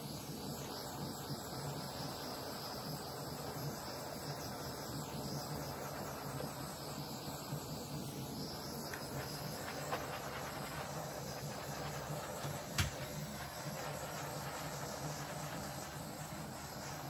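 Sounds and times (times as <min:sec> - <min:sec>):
butane torch hissing: 0:00.0 - 0:17.0.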